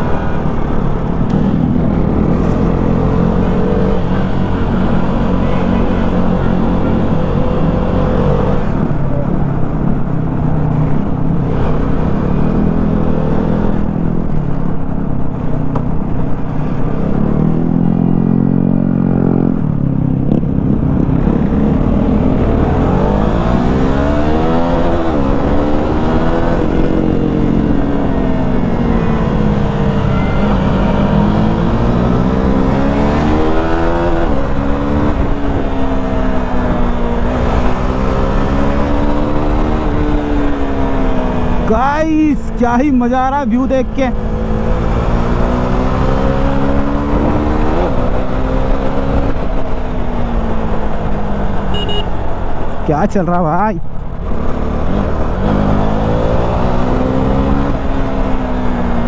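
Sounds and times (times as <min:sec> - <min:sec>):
motorcycle engine revving: 0:00.0 - 0:14.6, 0:15.9 - 0:41.8, 0:43.6 - 0:52.8, 0:54.0 - 0:59.0.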